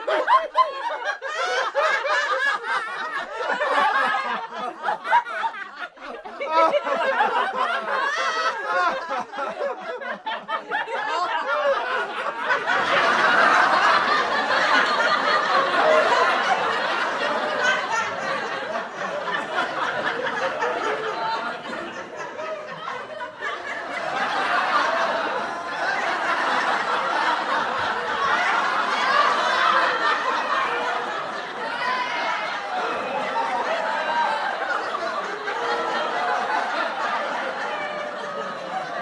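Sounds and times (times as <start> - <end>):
group of people laughing: 0.0 - 39.0.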